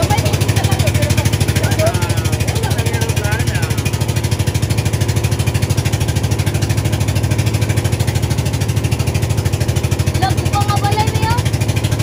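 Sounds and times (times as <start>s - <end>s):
boat engine puttering: 0.0s - 12.0s.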